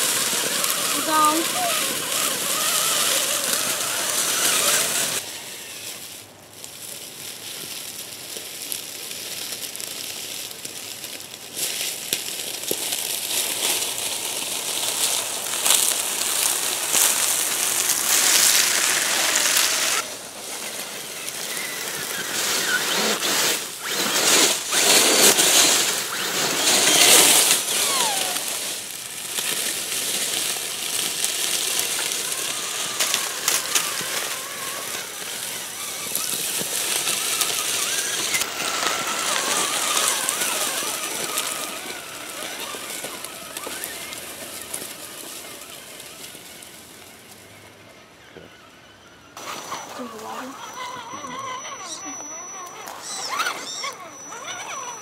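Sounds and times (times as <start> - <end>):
tyres crunching through dry leaves: 0.0 - 55.0.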